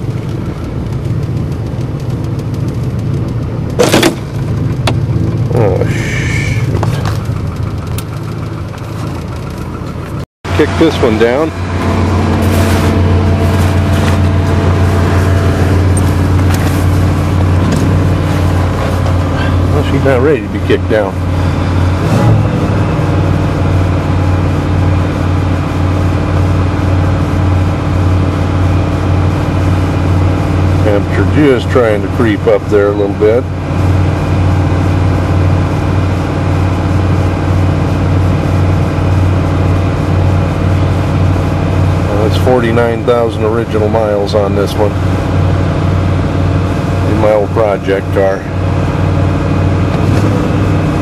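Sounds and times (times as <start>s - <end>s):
engine fast idling: 0.0s - 51.0s.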